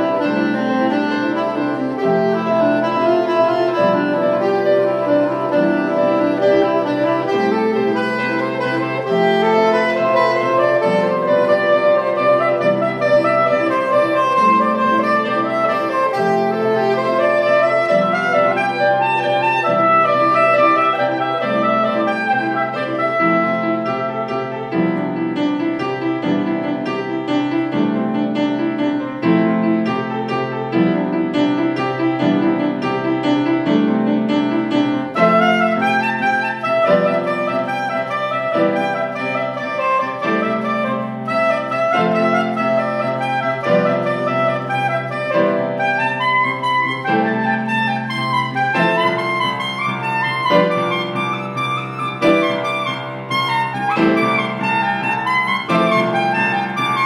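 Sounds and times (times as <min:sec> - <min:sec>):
piano chords: 0:00.0 - 0:57.0
soprano saxophone melody: 0:00.0 - 0:57.0.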